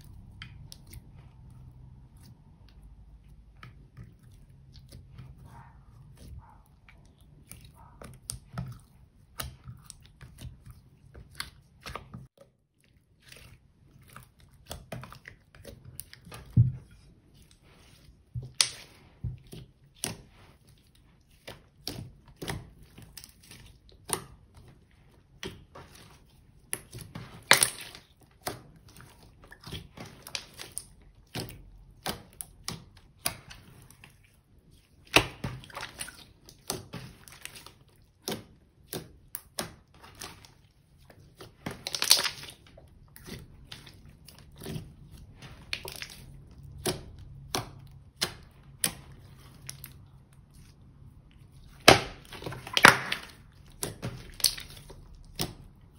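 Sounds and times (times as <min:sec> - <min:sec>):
slime squishing with wet clicks: 0:00.0 - 0:55.9.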